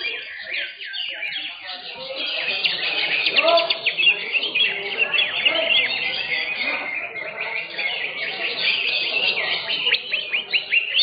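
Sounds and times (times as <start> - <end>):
bird chirping and trilling: 0.0 - 11.0.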